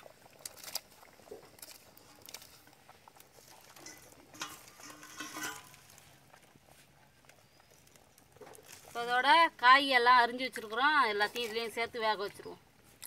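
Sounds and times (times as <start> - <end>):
water boiling in a pot: 0.0 - 13.0.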